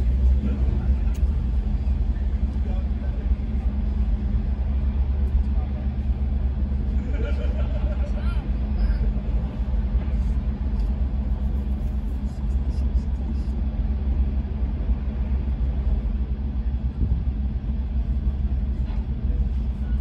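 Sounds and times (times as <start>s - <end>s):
engine rumbling: 0.0s - 20.0s.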